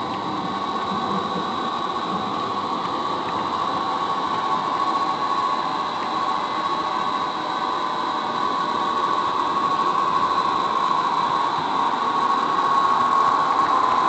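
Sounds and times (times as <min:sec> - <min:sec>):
high steady whine: 0:00.0 - 0:14.0.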